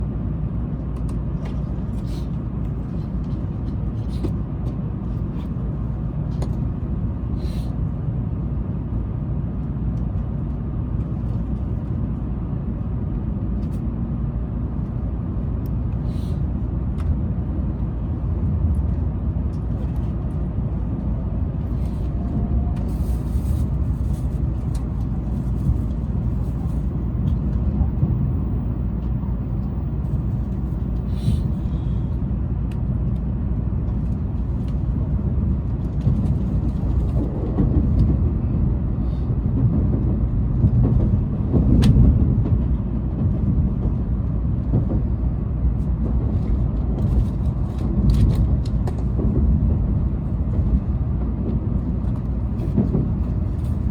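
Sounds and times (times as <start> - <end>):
train rumble inside carriage: 0.0 - 53.9.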